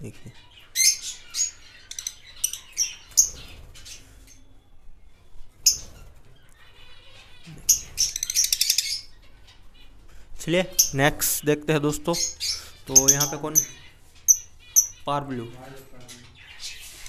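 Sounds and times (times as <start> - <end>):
lovebirds chirping: 0.0 - 17.0.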